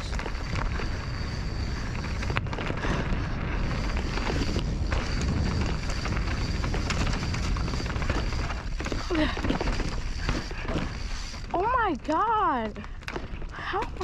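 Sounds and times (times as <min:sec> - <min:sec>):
bike rattles and clicks: 0:00.0 - 0:14.0
tyres crunching over rocks: 0:00.0 - 0:14.0
wind rumble on microphone: 0:00.0 - 0:14.0.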